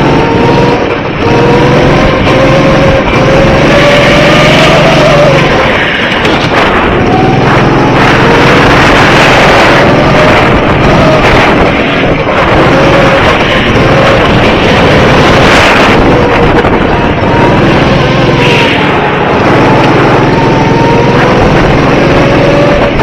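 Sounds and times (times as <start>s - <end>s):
go-kart motor: 0.0s - 23.0s
wind noise on microphone: 0.0s - 23.0s.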